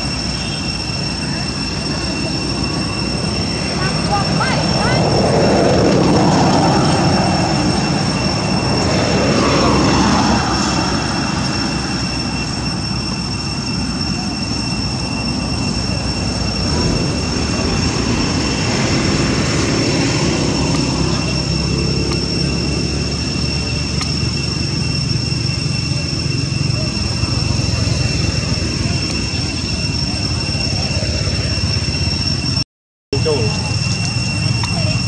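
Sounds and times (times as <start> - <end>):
motor scooters passing: 0.0 - 32.4, 33.2 - 35.0
high-pitched drone: 0.0 - 35.0.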